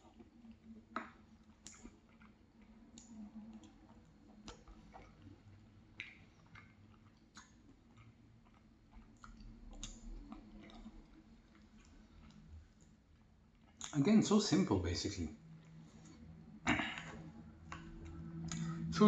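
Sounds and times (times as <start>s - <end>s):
person chewing quietly: 0.0s - 14.2s, 15.4s - 19.0s.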